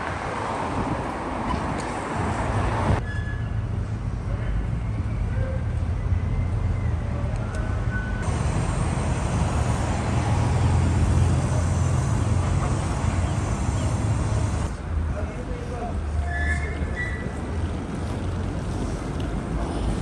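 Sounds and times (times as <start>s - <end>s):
low rumble of city traffic: 0.0s - 20.0s.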